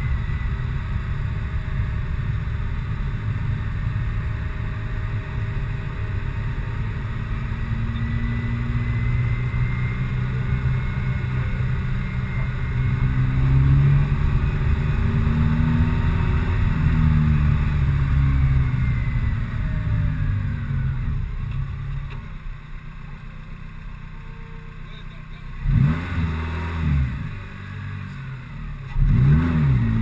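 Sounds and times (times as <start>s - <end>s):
car engine at low revs: 0.0s - 30.0s.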